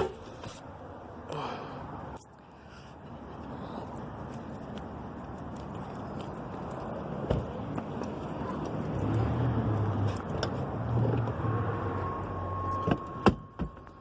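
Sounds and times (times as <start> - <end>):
road vehicle hum: 0.0 - 14.0.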